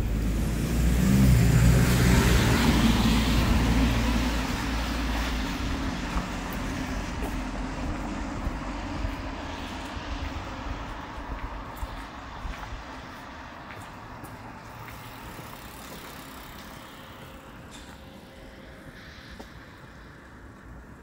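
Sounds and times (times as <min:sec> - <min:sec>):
vehicle passing by: 0:00.0 - 0:20.3.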